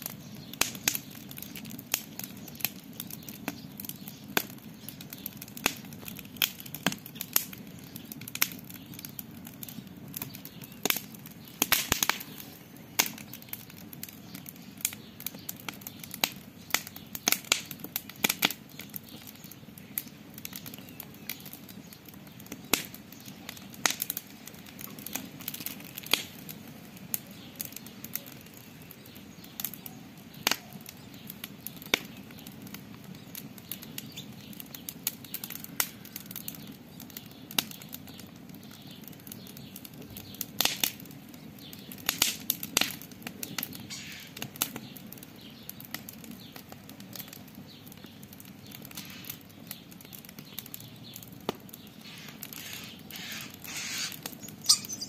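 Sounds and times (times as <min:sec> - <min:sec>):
campfire crackling and popping: 0:00.0 - 0:55.0
low rushing of flames: 0:00.0 - 0:55.0.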